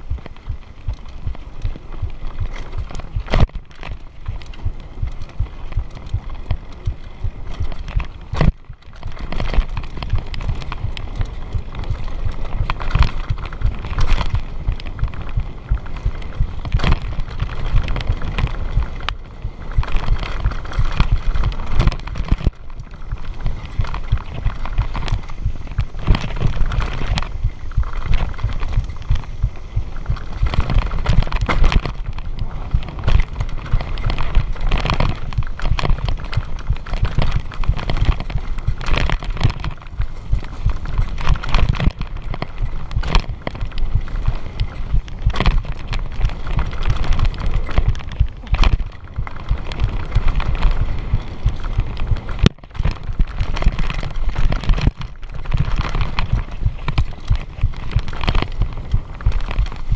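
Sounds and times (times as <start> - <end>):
bike rattles and knocks: 0.0 - 59.9
wind buffeting: 0.0 - 59.9.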